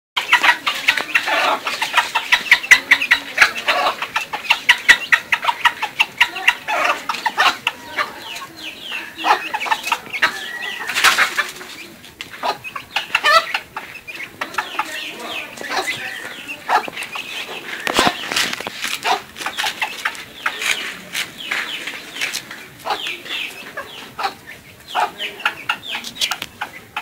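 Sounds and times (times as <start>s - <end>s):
chickens clucking: 0.2s - 27.0s.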